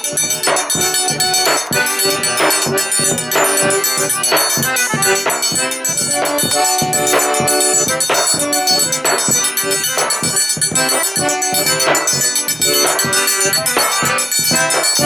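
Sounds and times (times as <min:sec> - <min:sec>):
accordion chords: 0:00.0 - 0:15.0
drum strokes: 0:00.0 - 0:15.0
jingling percussion: 0:00.0 - 0:15.0.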